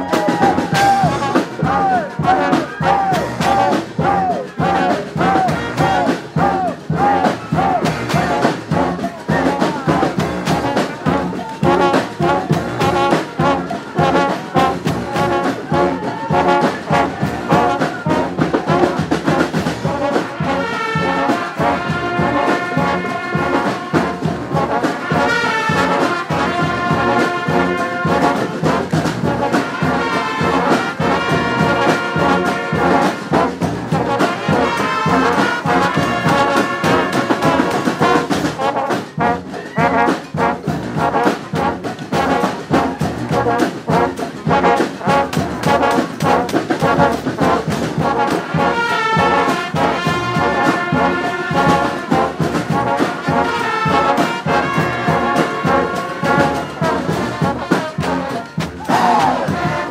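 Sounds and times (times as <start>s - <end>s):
brass bands playing: 0.0s - 59.9s
drums and crash cymbals: 0.0s - 59.9s.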